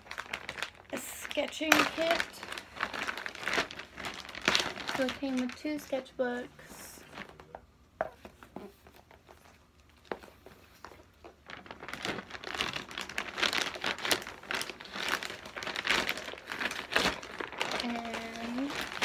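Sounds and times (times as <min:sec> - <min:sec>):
plastic packaging crinkling: 0:00.0 - 0:07.6, 0:08.3 - 0:19.0.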